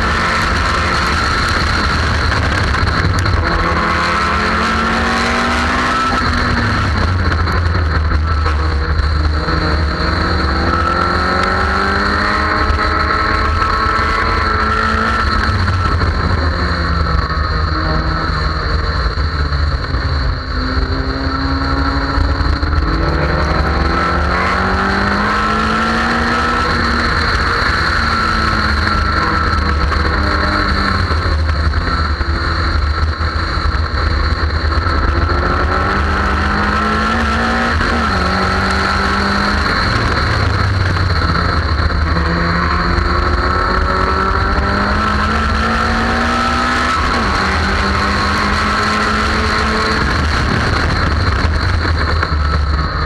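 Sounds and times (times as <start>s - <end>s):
race car engine accelerating: 0.0s - 53.0s
wind rumble on microphone: 0.0s - 53.0s.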